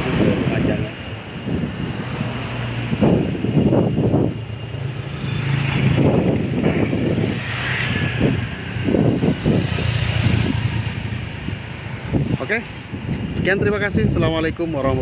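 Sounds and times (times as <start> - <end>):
motorcycles passing: 0.0 - 15.0.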